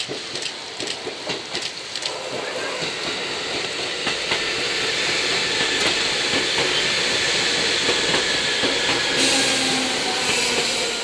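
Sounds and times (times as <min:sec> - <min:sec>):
train running hiss: 0:00.0 - 0:11.0.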